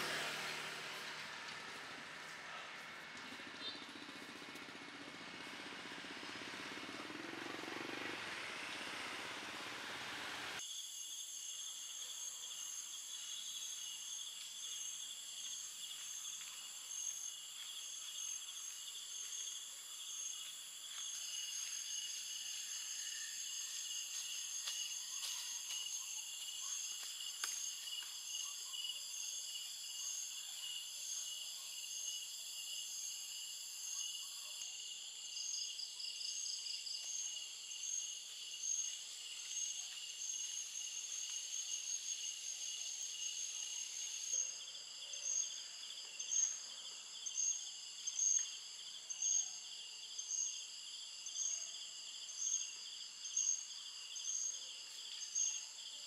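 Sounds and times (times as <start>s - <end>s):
pulsing high insect call: 3.6s - 56.0s
insects trilling: 10.6s - 56.0s.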